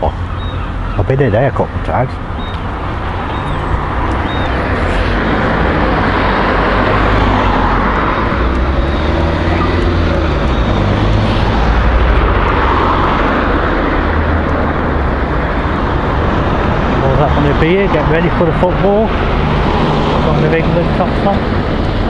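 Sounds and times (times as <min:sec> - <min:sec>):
cars passing: 0:00.0 - 0:22.0
steady low traffic rumble: 0:00.0 - 0:22.0.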